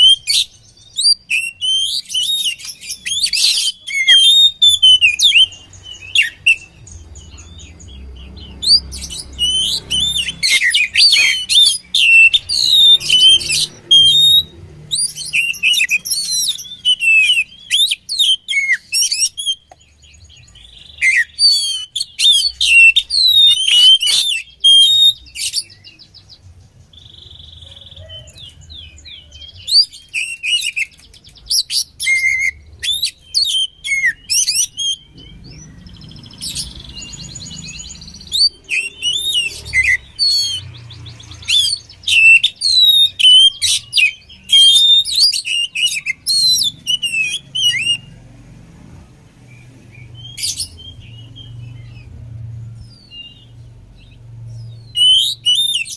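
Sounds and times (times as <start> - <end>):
bird singing chirps and whistles: 0.0 - 48.2, 49.5 - 52.1, 52.8 - 55.9.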